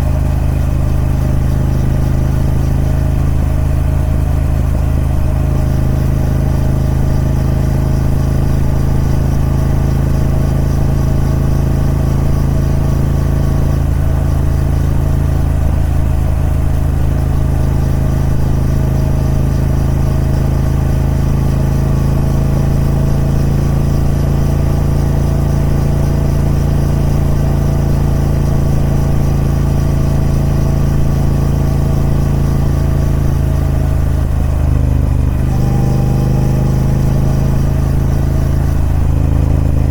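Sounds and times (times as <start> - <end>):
motorcycle engine running steady: 0.0 - 39.9.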